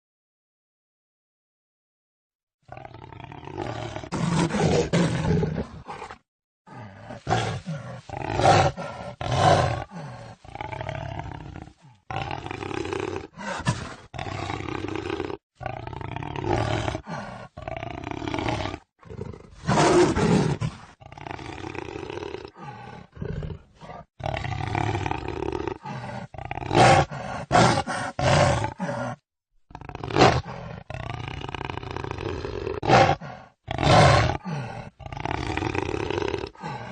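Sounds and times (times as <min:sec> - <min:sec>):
jaguar roaring and grunting: 0:02.7 - 0:36.9.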